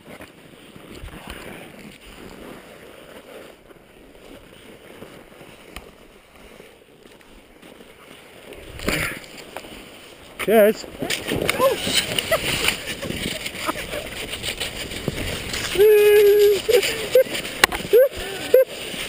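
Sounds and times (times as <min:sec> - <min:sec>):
skis scraping over snow: 0:00.0 - 0:19.0.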